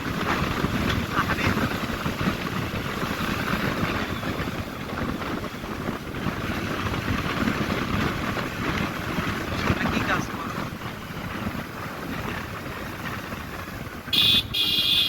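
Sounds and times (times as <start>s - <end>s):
motorcycle rumble: 0.0s - 15.0s
wind buffeting microphone: 0.0s - 15.0s.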